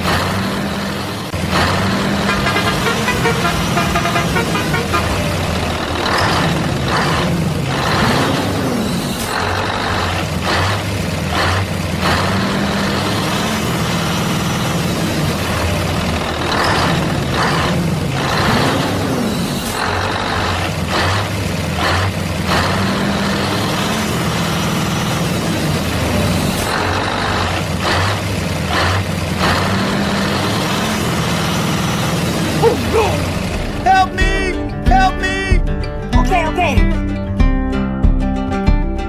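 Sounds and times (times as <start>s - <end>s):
heavy truck engine running: 0.0s - 36.1s.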